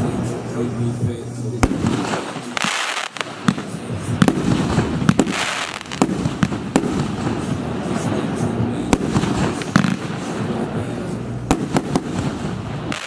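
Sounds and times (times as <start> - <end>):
firework bangs: 0.0 - 13.0
hissing crackle: 0.0 - 13.0.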